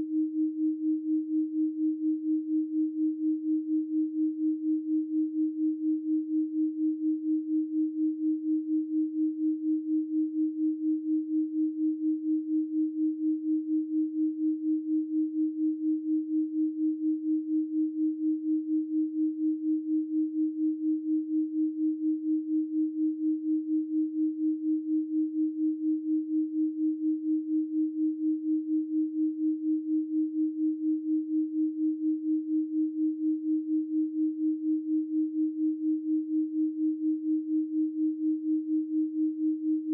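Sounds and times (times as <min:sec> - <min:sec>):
wavering sine tone: 0:00.0 - 0:39.9.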